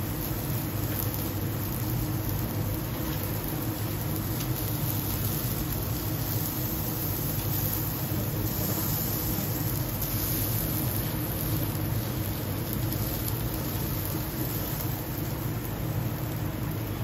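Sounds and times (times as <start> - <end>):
fan-like hum and hiss: 0.0 - 17.0
steaks sizzling on a grill: 0.0 - 17.0.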